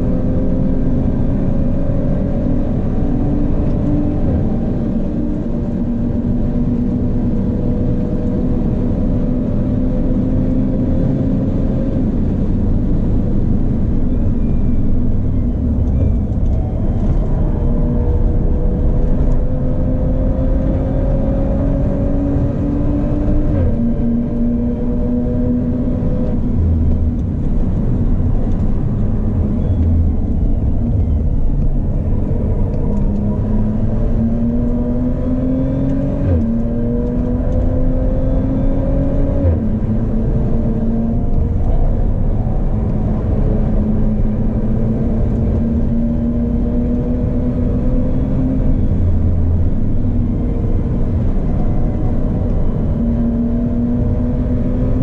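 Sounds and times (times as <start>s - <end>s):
car engine accelerating: 0.0s - 55.0s
road and tyre noise: 0.0s - 55.0s.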